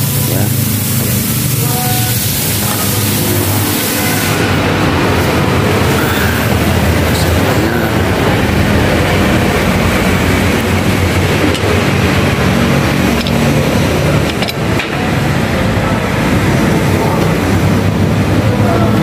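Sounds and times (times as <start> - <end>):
machinery hum and hiss: 0.0 - 19.0.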